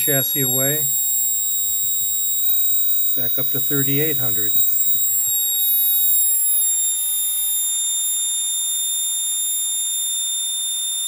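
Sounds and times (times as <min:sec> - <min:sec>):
small motor high-pitched whine: 0:00.0 - 0:11.0.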